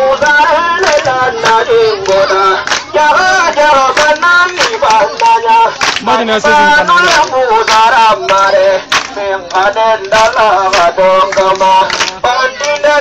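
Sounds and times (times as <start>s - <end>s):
person chanting through megaphone: 0.0s - 13.0s
sharp rhythmic beats: 0.0s - 13.0s.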